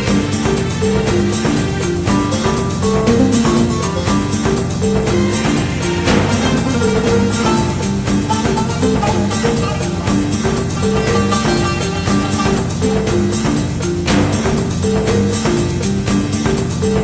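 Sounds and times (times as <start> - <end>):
plucked-string instrumental music: 0.0 - 17.0
steady percussion beat: 0.0 - 17.0.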